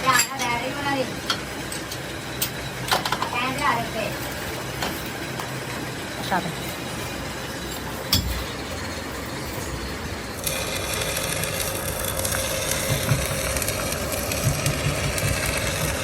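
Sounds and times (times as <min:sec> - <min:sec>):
workshop machinery running: 0:00.0 - 0:16.0.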